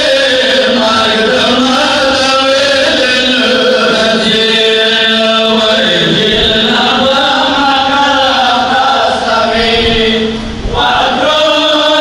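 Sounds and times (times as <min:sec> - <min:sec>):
men chanting into microphones: 0:00.0 - 0:12.0.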